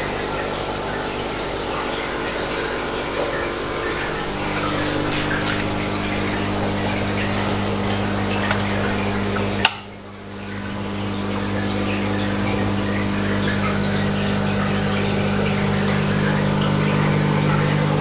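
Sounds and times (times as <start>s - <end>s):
aquarium pump hum: 0.0s - 18.0s
water noise: 0.0s - 18.0s.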